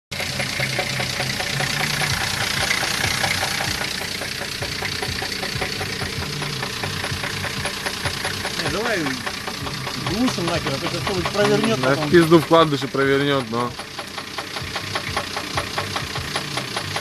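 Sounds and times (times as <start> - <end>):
car engine idling: 0.1 - 17.0
rapid even knocking: 0.2 - 17.0.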